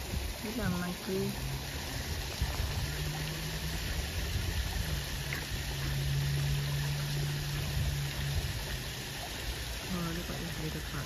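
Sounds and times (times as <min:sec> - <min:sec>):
running water: 0:00.0 - 0:11.0
low hum: 0:01.0 - 0:11.0.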